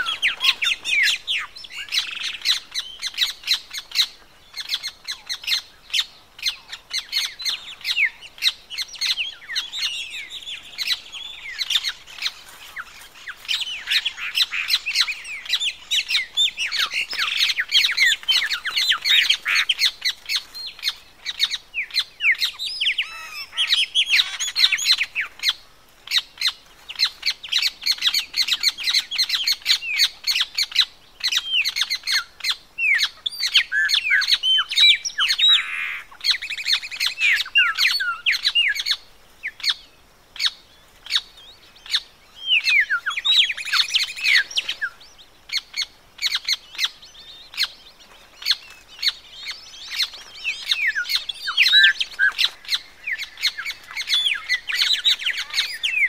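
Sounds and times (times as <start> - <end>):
ibis calls: 0.0 - 56.0
many birds calling: 0.0 - 56.0.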